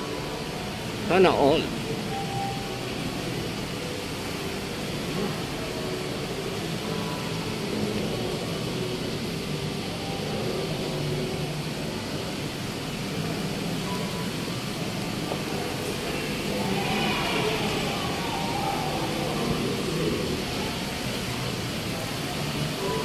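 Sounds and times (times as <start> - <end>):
air-conditioning noise: 0.0 - 23.0
faint far-off voices: 0.0 - 23.0.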